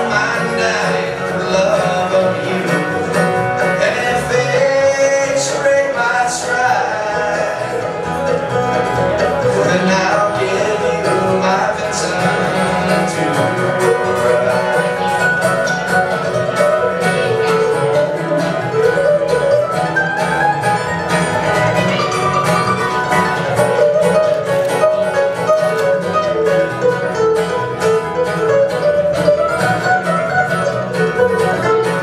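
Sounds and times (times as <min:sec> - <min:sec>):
acoustic guitar: 0:00.0 - 0:32.0
fiddle: 0:00.0 - 0:32.0
mandolin: 0:00.0 - 0:32.0
upright bass: 0:00.0 - 0:32.0.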